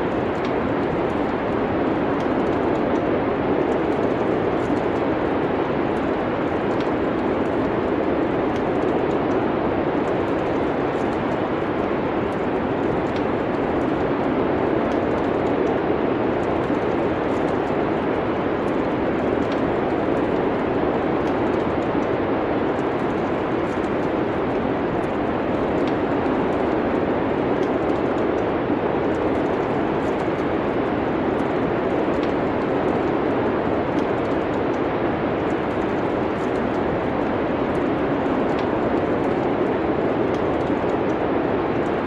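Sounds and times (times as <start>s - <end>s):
rushing winter wind: 0.0s - 42.0s
wood fire crackling: 0.0s - 42.0s.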